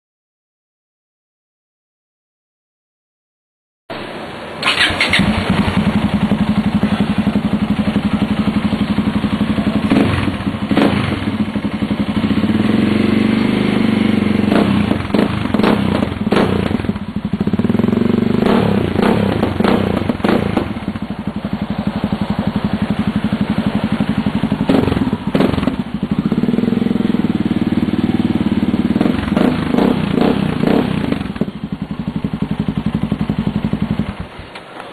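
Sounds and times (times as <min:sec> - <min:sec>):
motorcycle engine idling and revving: 0:03.9 - 0:34.9.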